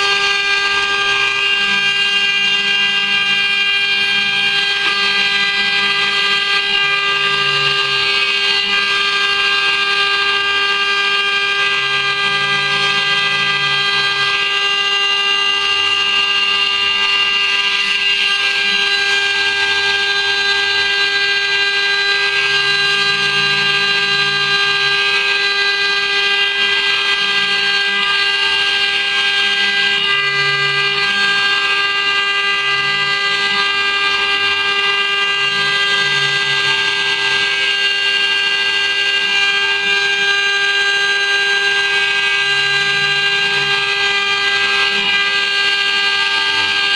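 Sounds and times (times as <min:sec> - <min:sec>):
router spindle whining: 0:00.0 - 0:46.9.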